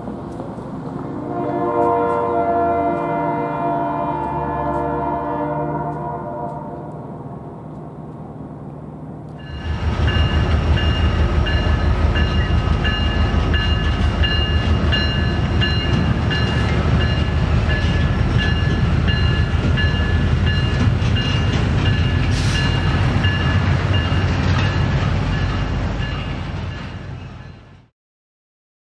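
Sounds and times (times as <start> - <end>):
freight train rumbling past: 0.0 - 27.9.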